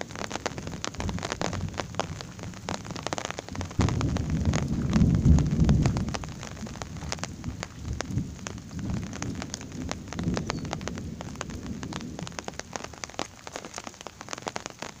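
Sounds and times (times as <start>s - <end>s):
heavy raindrops tapping: 0.0s - 15.0s
low thunder rumble: 0.5s - 12.6s.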